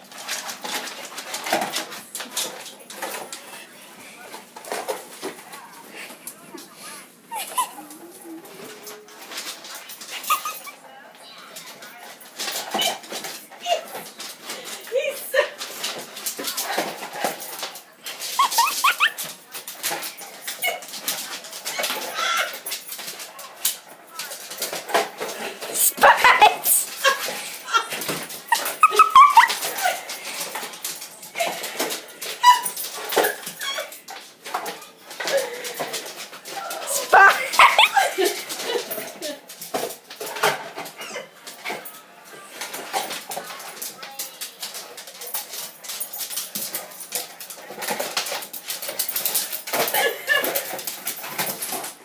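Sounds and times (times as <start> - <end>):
crinkly toy crackling: 0.0 - 52.0.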